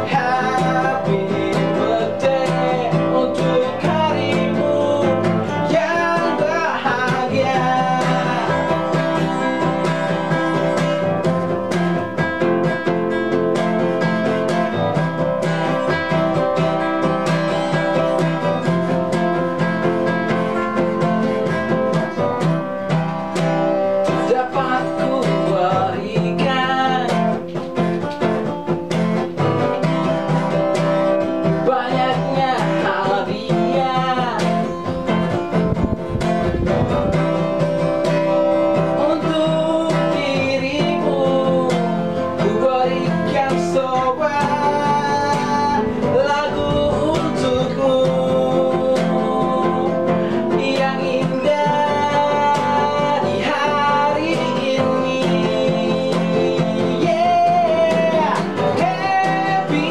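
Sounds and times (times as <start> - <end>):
acoustic guitars playing: 0.0 - 59.9
man singing: 0.0 - 59.9.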